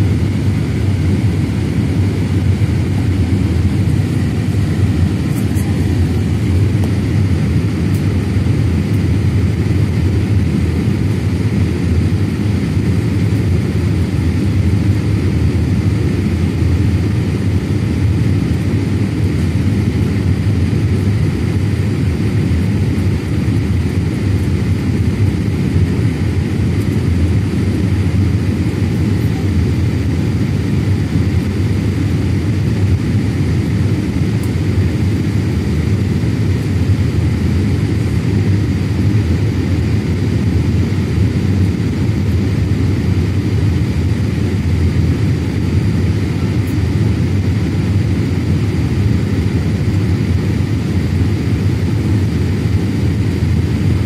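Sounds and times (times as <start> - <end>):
airplane cabin rumble: 0.0 - 54.0
faint steady whine: 0.0 - 54.0.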